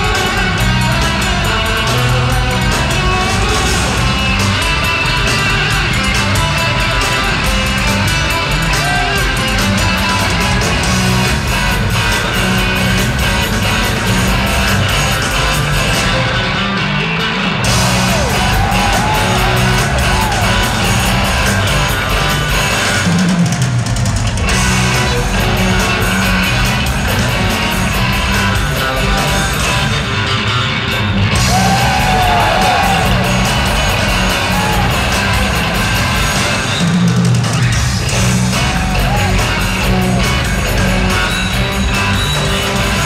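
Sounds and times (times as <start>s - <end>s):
drum kit: 0.0s - 43.0s
electric bass: 0.0s - 43.0s
electric guitar: 0.0s - 43.0s.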